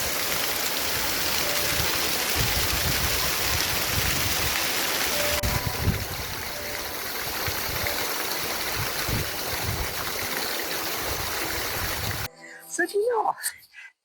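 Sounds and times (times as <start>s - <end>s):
stream water rushing: 0.0s - 12.3s.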